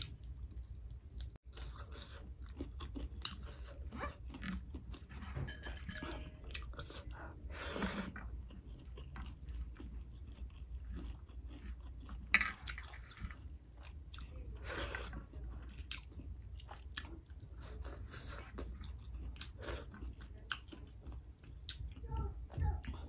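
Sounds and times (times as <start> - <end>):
person chewing with wet smacking: 0.0 - 5.4, 6.1 - 23.0.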